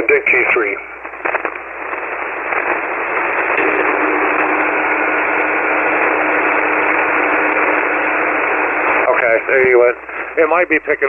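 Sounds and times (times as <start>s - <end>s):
faint steady tones: 0.0s - 11.0s
radio hiss: 0.0s - 11.0s.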